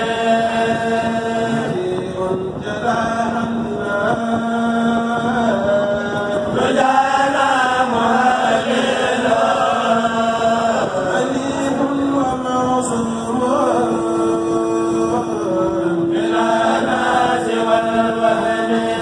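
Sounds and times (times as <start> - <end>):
men chanting together: 0.0 - 14.0, 15.5 - 19.0
low held vocal drone: 0.0 - 19.0.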